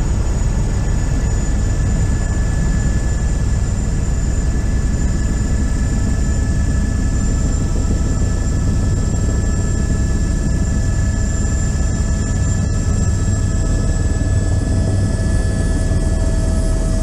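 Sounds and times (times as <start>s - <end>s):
helicopter rotor rumble: 0.0s - 17.0s
high-pitched turbine whine: 0.0s - 17.0s.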